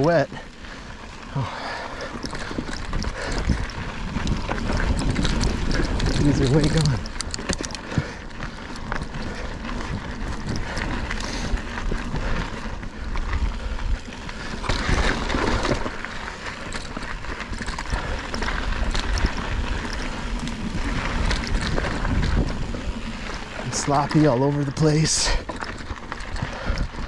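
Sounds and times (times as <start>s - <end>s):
wind buffeting microphone: 0.0s - 24.4s
bike clicks and rattles: 0.0s - 27.0s
tyres rumbling over dirt: 0.0s - 27.0s.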